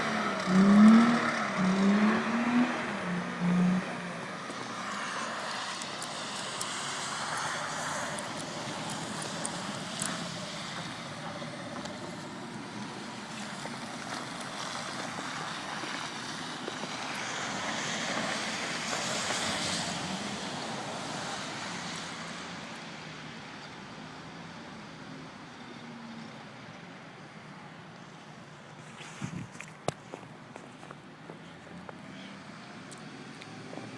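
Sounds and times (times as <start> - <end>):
car tyre and engine noise: 0.0 - 33.9.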